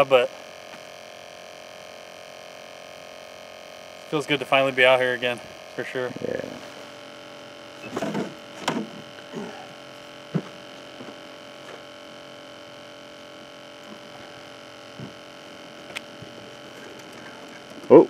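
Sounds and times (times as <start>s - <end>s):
electric motor humming: 0.0s - 18.0s.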